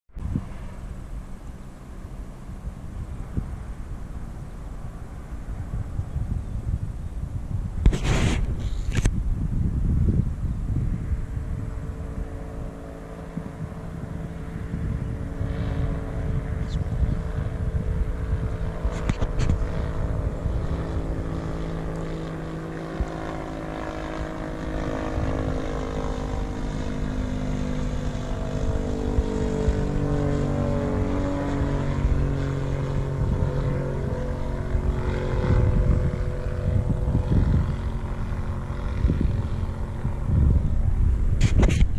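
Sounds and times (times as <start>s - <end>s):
light aircraft droning past: 0.1s - 41.9s
wind rumbling on microphone: 0.1s - 41.9s.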